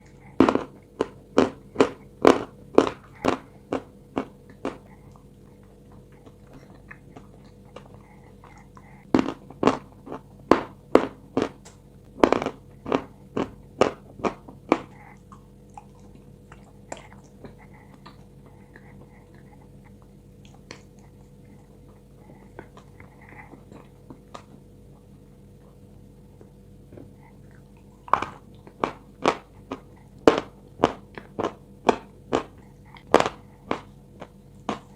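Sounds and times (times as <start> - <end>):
person crunching and chewing: 0.0 - 25.1, 26.9 - 34.9
steady low hum: 0.0 - 34.9.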